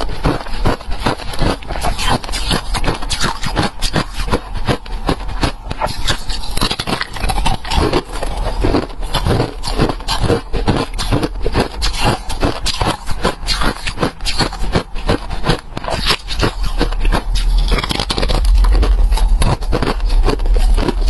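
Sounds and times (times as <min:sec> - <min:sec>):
ice being chewed: 0:00.0 - 0:21.0.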